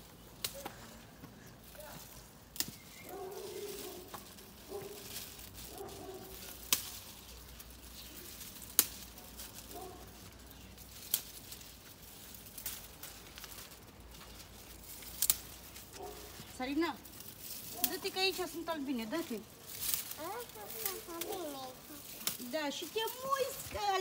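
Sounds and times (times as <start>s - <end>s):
soft rustling of dried flowers: 0.0s - 24.0s
sharp snaps of dried stems: 0.4s - 1.0s, 1.6s - 16.0s, 17.1s - 18.5s, 19.7s - 23.5s.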